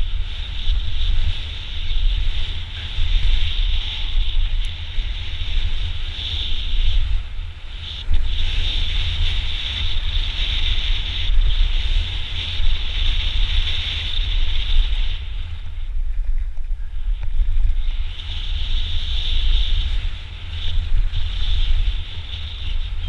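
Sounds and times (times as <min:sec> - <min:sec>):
steady high buzz: 0:00.0 - 0:23.0
wind buffeting microphone: 0:00.0 - 0:23.0.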